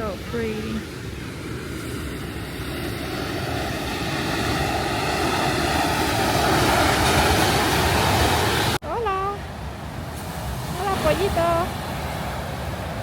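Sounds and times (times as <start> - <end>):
ocean surf rushing: 0.0 - 13.0
wind on microphone: 0.0 - 13.0.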